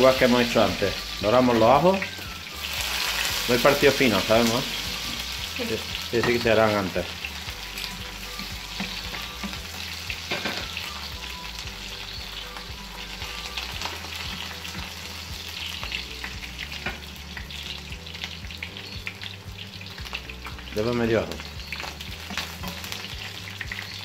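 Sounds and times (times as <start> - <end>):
garlic sizzling in hot oil: 0.0 - 24.0.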